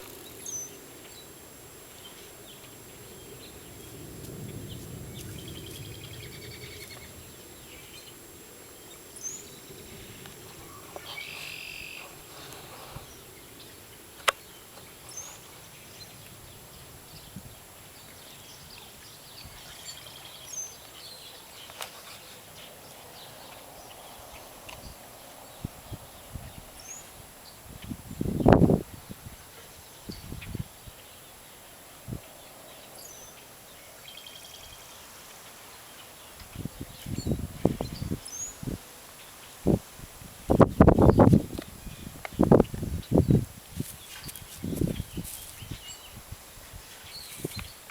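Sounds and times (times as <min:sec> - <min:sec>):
faint birdsong chirps: 0:00.0 - 0:39.8, 0:40.4 - 0:47.9
steady background hiss: 0:00.0 - 0:47.9.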